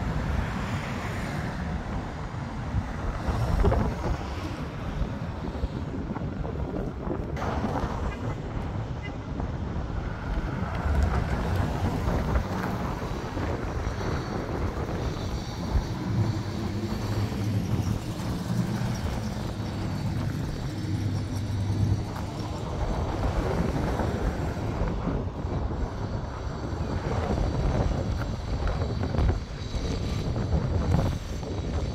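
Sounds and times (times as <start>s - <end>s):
street traffic: 0.0s - 31.9s
wind buffeting microphone: 0.0s - 31.9s.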